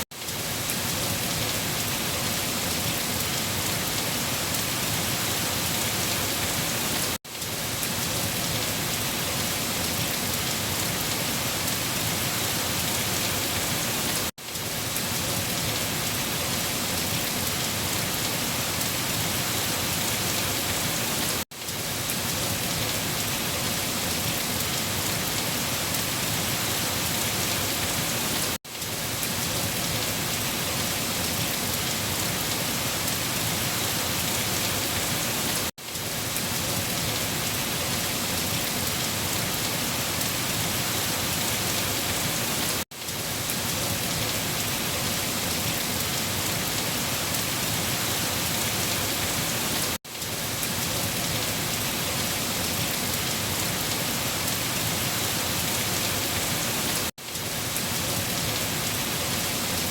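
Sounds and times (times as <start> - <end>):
heavy rain on leaves: 0.0 - 59.9.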